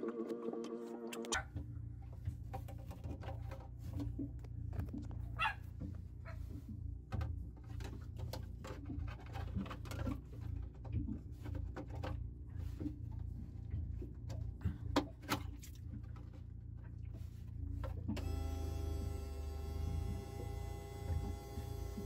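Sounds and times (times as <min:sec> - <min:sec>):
steady low hum: 0:01.3 - 0:22.0.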